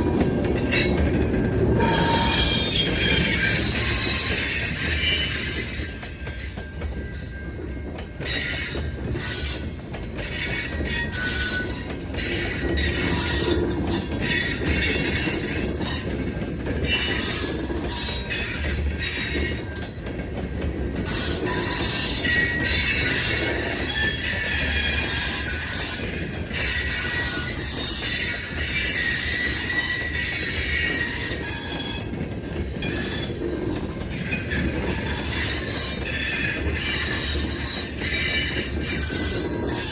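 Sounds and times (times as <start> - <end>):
low train rumble: 0.0 - 39.9
train cars clattering: 0.0 - 39.9
train wheels squealing on rails: 0.0 - 39.9.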